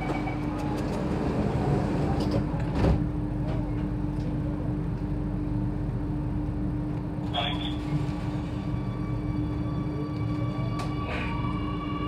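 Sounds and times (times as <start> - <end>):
train hum: 0.0 - 12.0.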